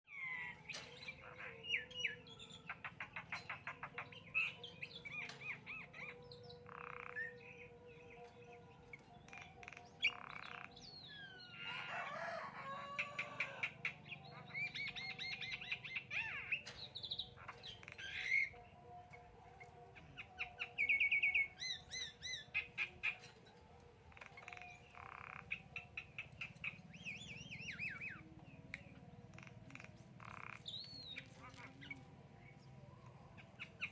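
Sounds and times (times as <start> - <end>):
myna bird calling: 0.1 - 8.3, 9.0 - 23.4, 24.1 - 33.9.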